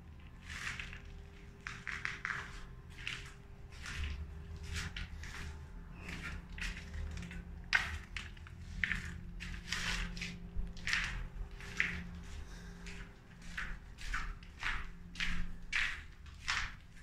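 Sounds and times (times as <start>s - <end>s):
footsteps crunching on gritty concrete: 0.3s - 17.0s.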